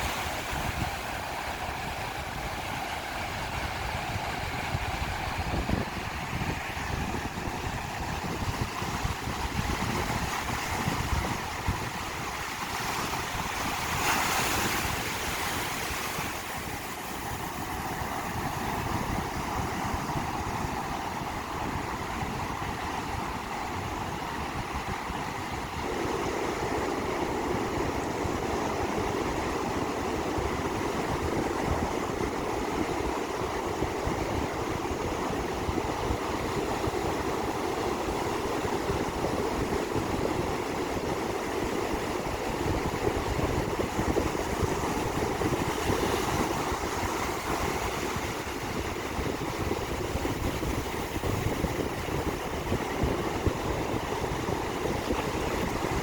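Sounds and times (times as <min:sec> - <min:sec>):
sea waves rushing: 0:00.0 - 0:56.0.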